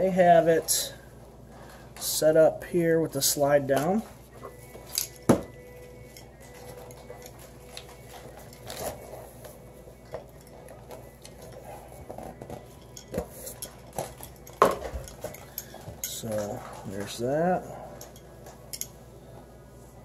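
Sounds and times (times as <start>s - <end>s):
low room noise: 0.0s - 20.0s.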